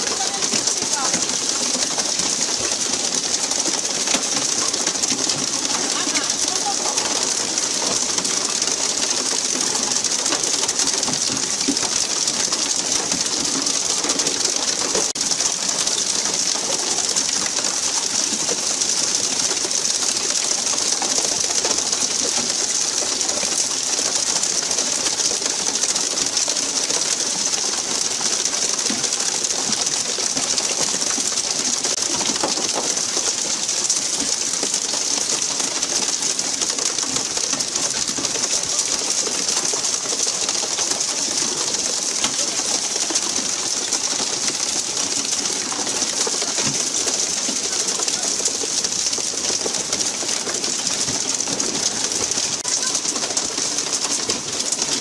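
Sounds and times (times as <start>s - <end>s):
churning water murmur: 0.0s - 55.0s.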